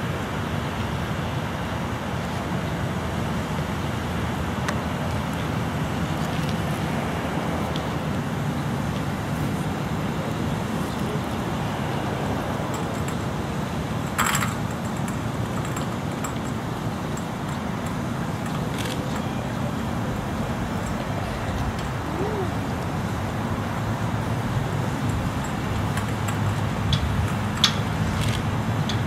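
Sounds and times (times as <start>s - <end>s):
outdoor rumble and hiss: 0.0s - 29.0s.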